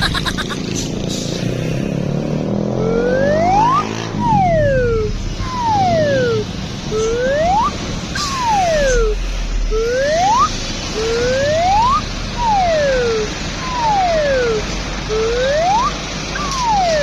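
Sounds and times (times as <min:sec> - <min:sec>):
electronic siren-like tone: 0:02.7 - 0:17.0.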